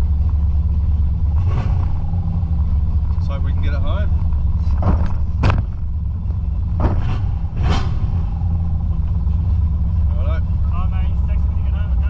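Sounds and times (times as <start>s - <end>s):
misfiring car engine drone: 0.0s - 12.0s.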